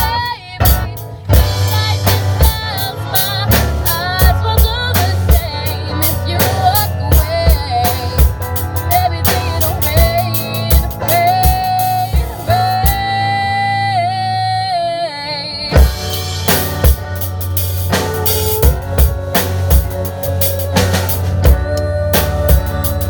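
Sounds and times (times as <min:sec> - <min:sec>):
drum kit: 0:00.0 - 0:13.2, 0:15.7 - 0:23.0
person singing long notes: 0:00.0 - 0:16.2, 0:20.2 - 0:23.0
bass: 0:00.0 - 0:23.0.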